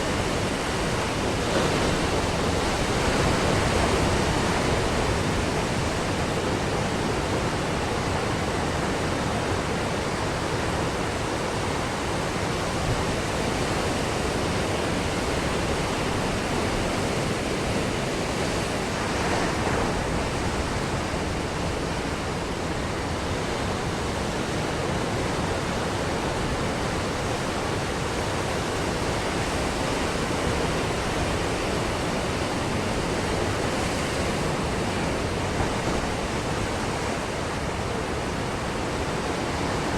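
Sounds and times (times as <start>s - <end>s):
ocean surf on a beach: 0.0s - 39.9s.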